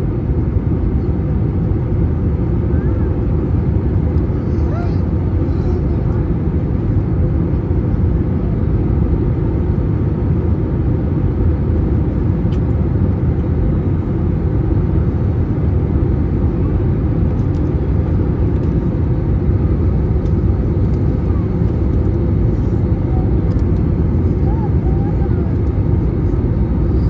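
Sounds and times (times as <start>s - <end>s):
airflow and jet engines: 0.0s - 27.0s
airplane cabin rumble: 0.0s - 27.0s.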